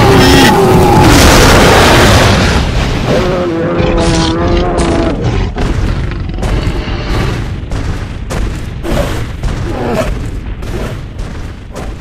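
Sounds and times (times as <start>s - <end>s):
distorted dense rumble: 0.0s - 12.0s.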